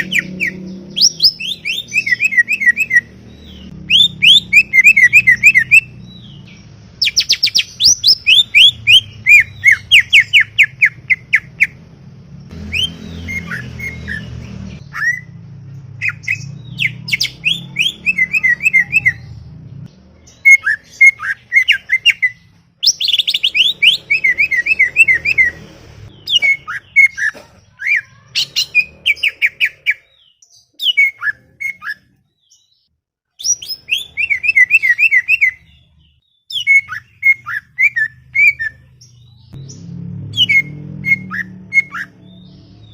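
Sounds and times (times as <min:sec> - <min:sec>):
bird chattering song: 0:00.0 - 0:11.8, 0:12.7 - 0:42.9.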